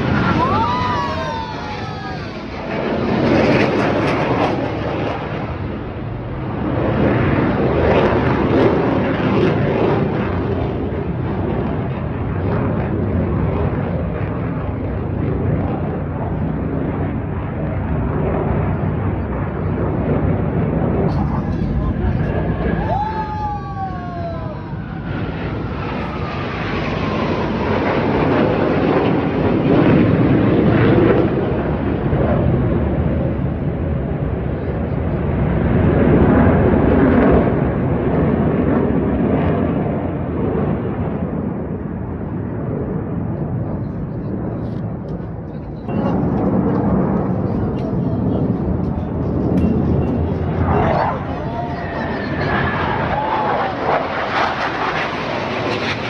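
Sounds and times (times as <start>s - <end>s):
jet engines flying past: 0.0s - 56.0s.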